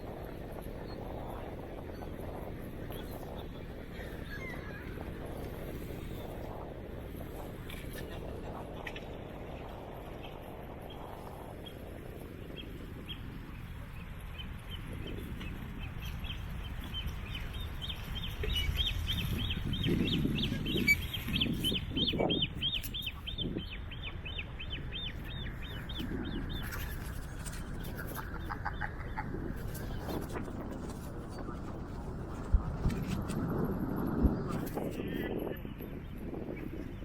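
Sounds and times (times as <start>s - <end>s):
wind and tyre rumble: 0.0s - 37.0s.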